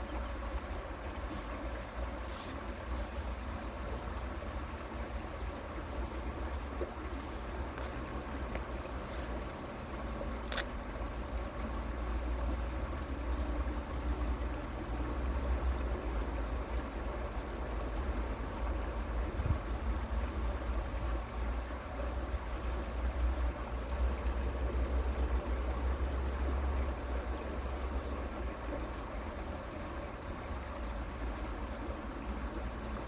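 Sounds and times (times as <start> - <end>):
creek water running: 0.0 - 33.0.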